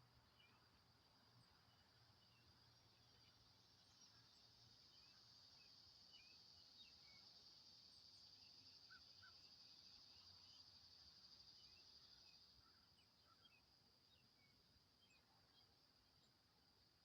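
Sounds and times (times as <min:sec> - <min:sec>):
high-pitched insect chorus: 0:00.0 - 0:17.0
soft bird chirps: 0:00.2 - 0:16.3.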